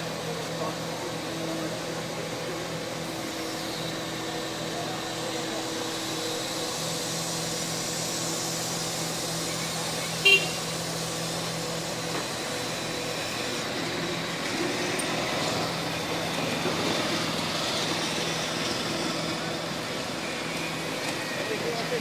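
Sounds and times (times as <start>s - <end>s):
crane diesel engine humming: 0.0s - 22.0s.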